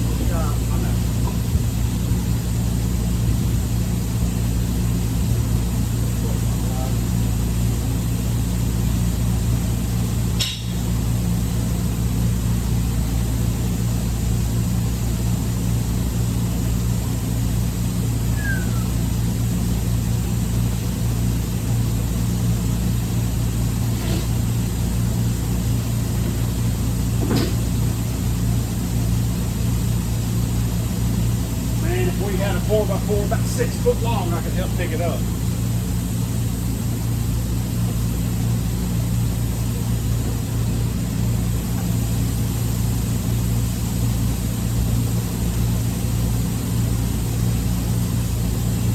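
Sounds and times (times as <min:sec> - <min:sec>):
machinery humming: 0:00.0 - 0:48.9.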